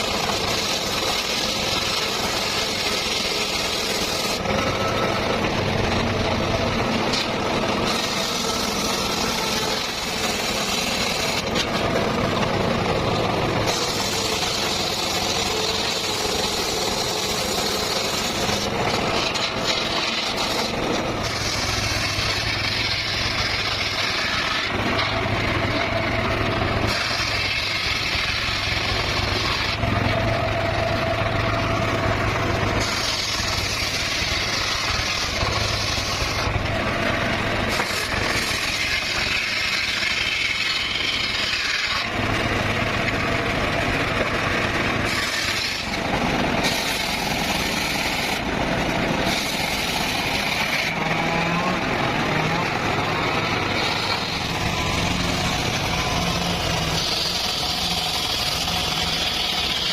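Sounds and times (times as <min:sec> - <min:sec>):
circular saw cutting wood: 0:00.0 - 0:59.9.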